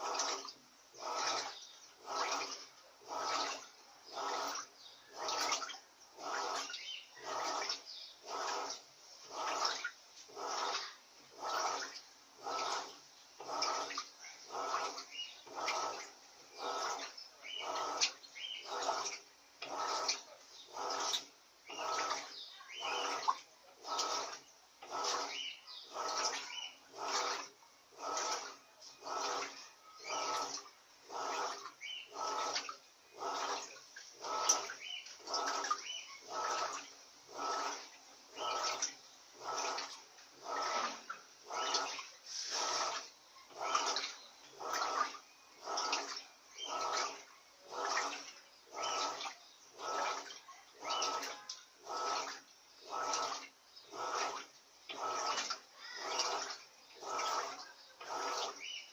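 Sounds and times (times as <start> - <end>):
motor hum: 0.0 - 58.9
washing machine sloshing: 0.0 - 58.9
water swishing: 0.0 - 58.9.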